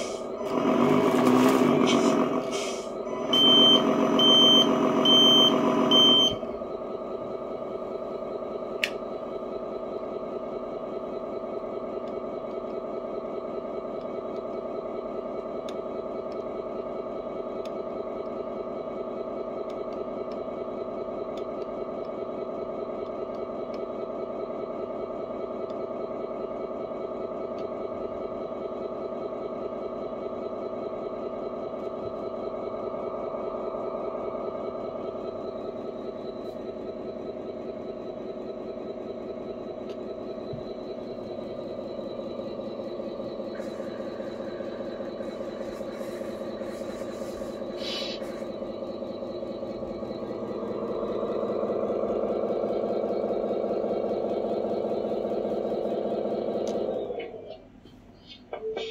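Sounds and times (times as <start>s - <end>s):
simulated diesel engine idling: 0.0s - 58.9s.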